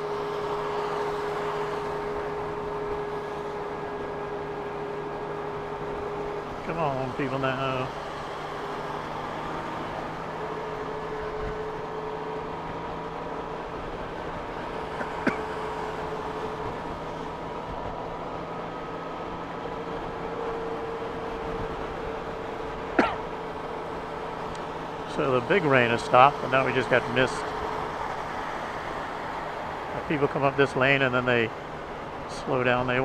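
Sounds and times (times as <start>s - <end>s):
motorcycle engine hum: 0.0s - 33.0s
road noise: 0.0s - 33.0s
wind: 0.0s - 33.0s.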